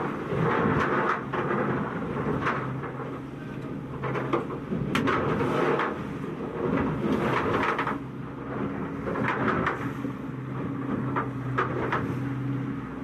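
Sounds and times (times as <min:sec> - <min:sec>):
boat engine running: 0:00.0 - 0:13.0
water splashing against hull: 0:00.0 - 0:13.0.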